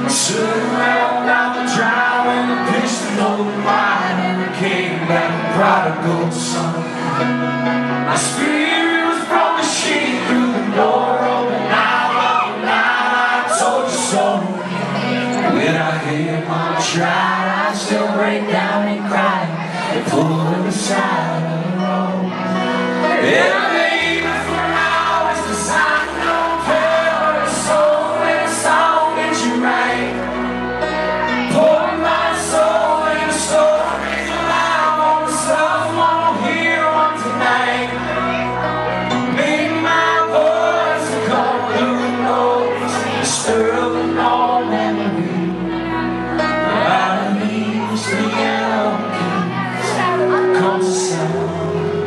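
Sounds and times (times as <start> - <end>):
bass notes: 0.0 - 52.0
person singing: 0.0 - 52.0.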